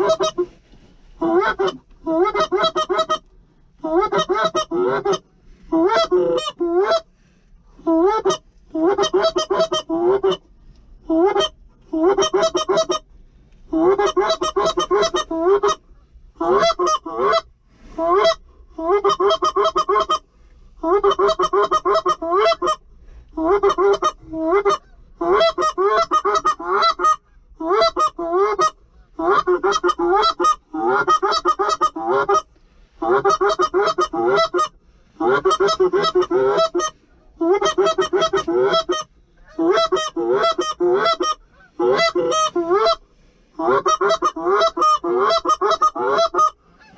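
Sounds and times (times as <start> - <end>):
goose honking: 0.0 - 0.5, 1.2 - 7.1, 7.9 - 10.4, 11.1 - 13.1, 13.7 - 15.8, 16.4 - 20.2, 20.8 - 22.8, 23.4 - 43.0, 43.6 - 46.9.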